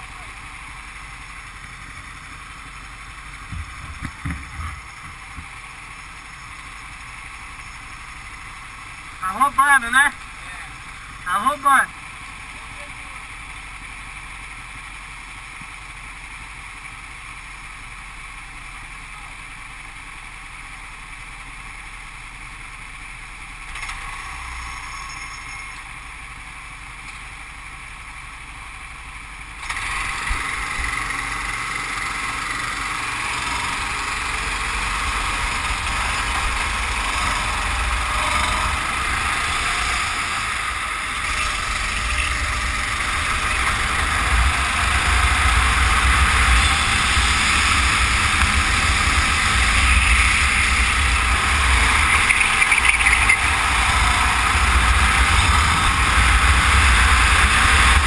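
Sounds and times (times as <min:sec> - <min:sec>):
go-kart engine: 0:00.0 - 0:58.0.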